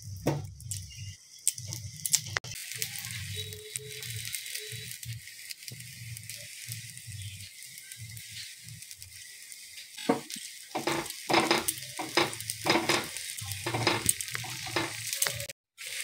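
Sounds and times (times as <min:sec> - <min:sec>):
batter sizzling on griddle: 0:00.0 - 0:16.0.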